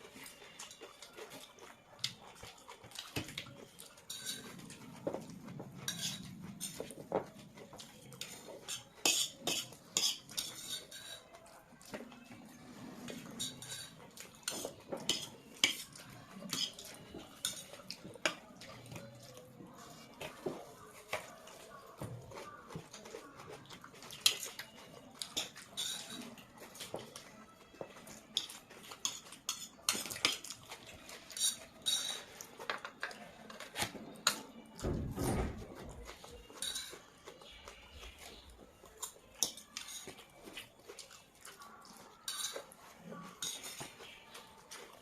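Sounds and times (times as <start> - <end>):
cutlery clinking on plates: 0.0 - 19.4, 22.0 - 38.4, 39.0 - 41.2, 42.2 - 44.8.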